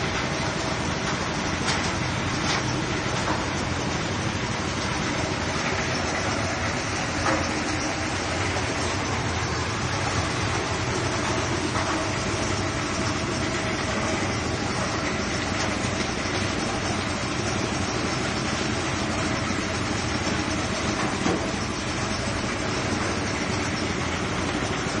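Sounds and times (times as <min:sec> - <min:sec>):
fibre machine running: 0:00.0 - 0:25.0.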